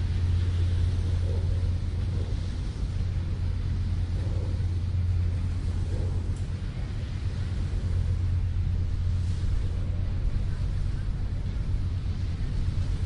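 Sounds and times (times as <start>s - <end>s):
engine idling low rumble: 0.0s - 13.0s.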